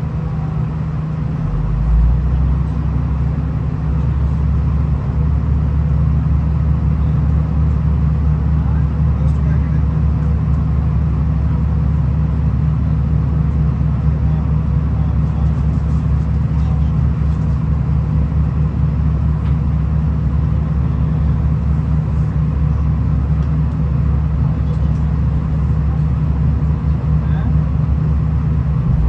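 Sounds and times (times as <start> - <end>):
diesel railcar rumbling: 0.0 - 29.0.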